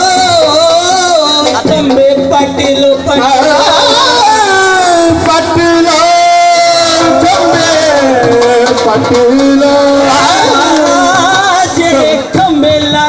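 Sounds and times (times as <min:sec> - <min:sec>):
amplified man singing long notes: 0:00.0 - 0:13.0.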